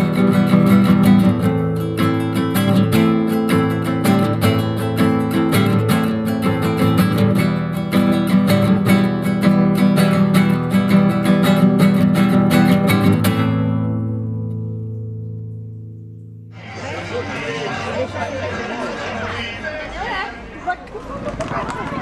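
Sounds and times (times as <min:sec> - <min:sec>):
acoustic guitar strumming: 0:00.0 - 0:19.4.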